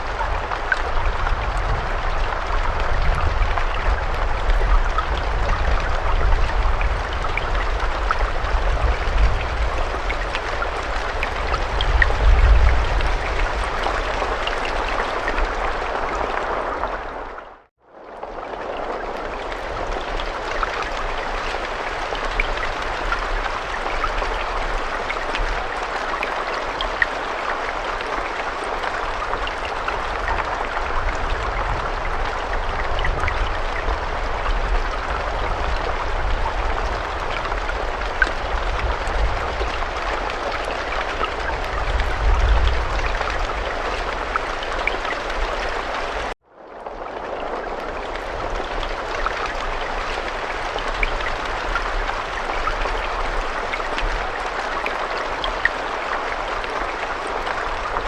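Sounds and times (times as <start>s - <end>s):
raindrops ticking: 0.0s - 17.3s, 18.2s - 58.0s
steady rainfall: 0.0s - 58.0s.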